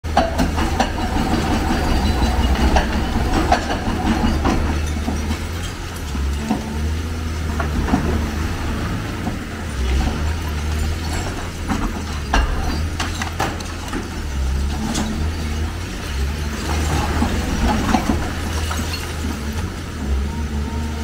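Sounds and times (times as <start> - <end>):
excavator diesel engine running: 0.0 - 21.0
concrete debris crashing down: 0.1 - 20.0.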